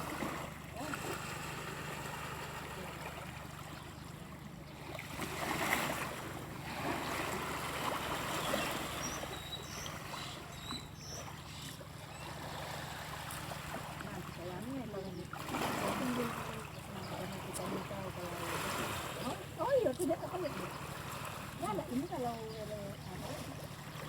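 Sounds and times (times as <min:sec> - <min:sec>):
water lapping against a boat: 0:00.0 - 0:24.0.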